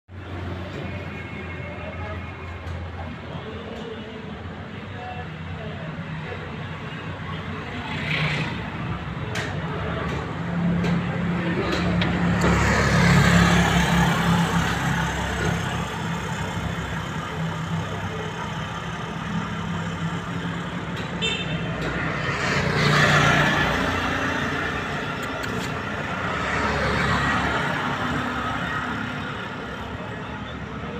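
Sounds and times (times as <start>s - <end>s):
vehicles passing: 0.1s - 30.9s.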